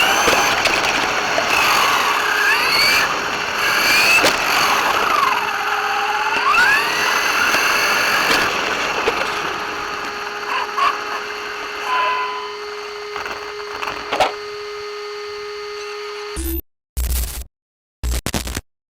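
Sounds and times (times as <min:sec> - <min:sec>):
electric motor whining: 0:00.0 - 0:16.4.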